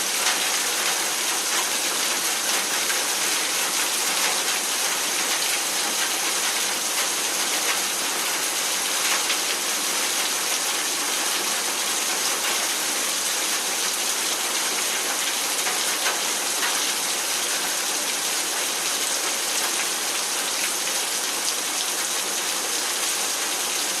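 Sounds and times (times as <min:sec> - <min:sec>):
heavy rain: 0:00.0 - 0:24.0.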